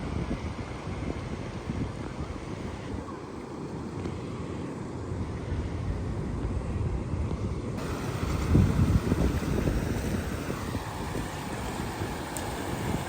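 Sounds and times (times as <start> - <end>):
wind buffeting microphone: 0.0 - 3.1, 5.2 - 13.0.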